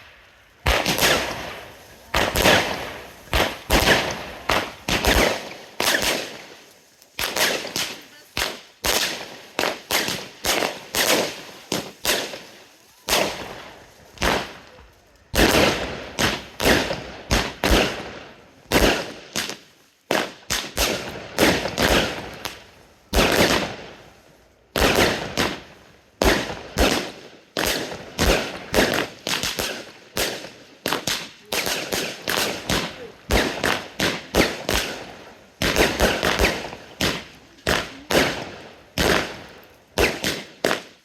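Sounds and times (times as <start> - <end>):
fireworks bangs echoing: 0.0 - 41.0.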